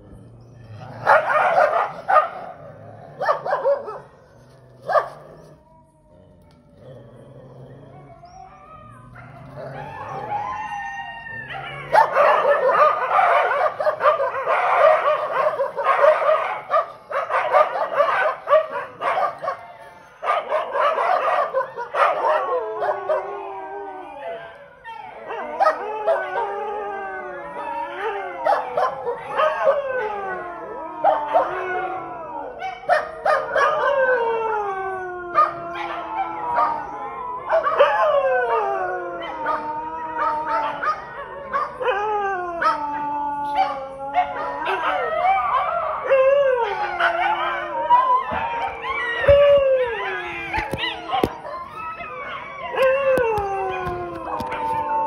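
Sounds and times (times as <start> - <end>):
dogs barking: 0.0 - 5.6, 6.8 - 10.7, 11.4 - 23.3, 24.8 - 26.5, 28.4 - 30.2, 32.5 - 34.1, 35.3 - 38.6, 39.2 - 41.9, 42.6 - 54.6
dogs howling: 0.0 - 55.0.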